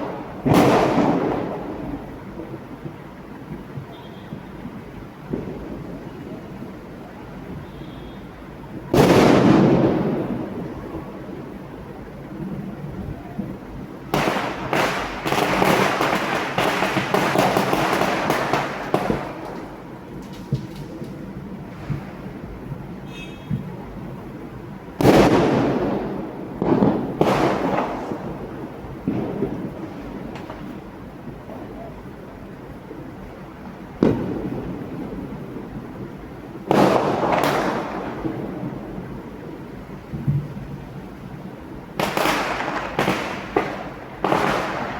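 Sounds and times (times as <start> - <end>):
firecrackers crackling pops: 0.0 - 44.9.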